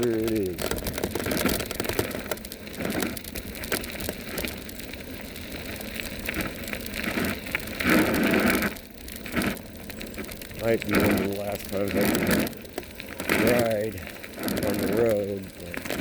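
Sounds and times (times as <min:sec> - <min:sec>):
bike clicks and rattles: 0:00.0 - 0:16.0
tyres crunching over gravel: 0:00.0 - 0:16.0.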